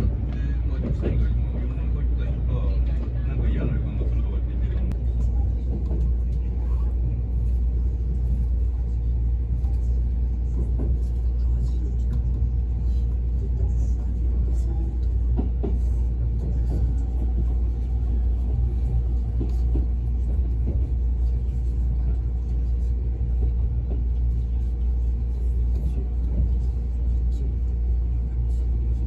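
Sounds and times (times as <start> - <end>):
electric train rumble inside cabin: 0.0 - 29.0.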